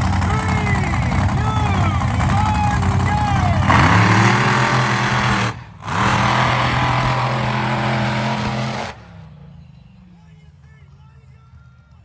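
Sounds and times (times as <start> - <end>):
monster truck engines roaring: 0.0 - 12.0.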